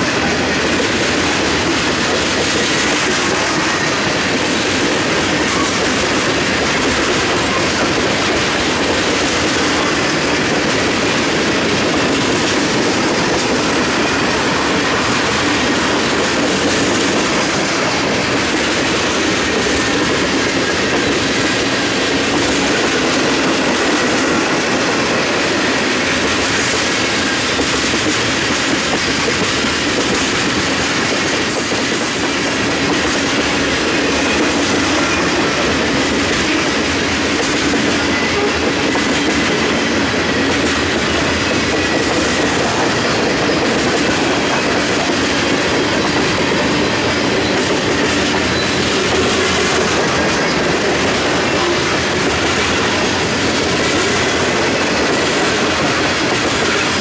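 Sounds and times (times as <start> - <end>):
freight train wheels on rail: 0.0 - 57.0.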